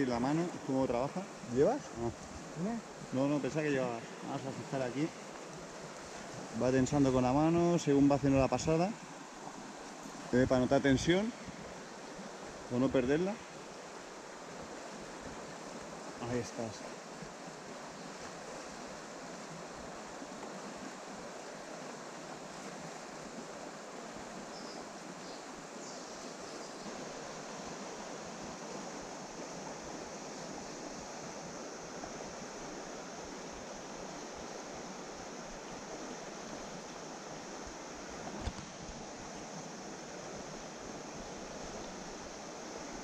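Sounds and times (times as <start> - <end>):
fast-flowing river rushing: 0.0 - 43.0.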